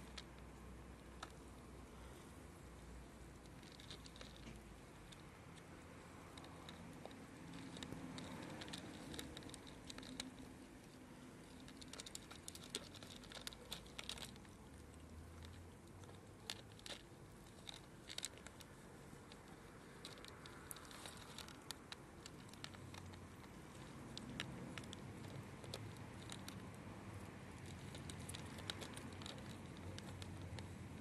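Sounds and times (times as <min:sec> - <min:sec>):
cats crunching dry kibble: 0:00.0 - 0:31.0.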